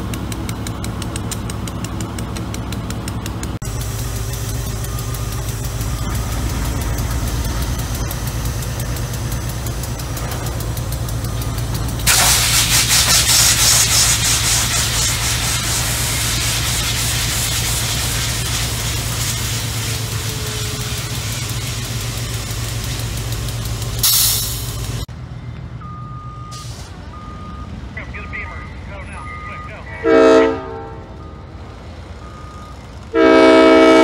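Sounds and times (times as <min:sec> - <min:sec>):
diesel locomotive engine idling: 0:00.0 - 0:34.0.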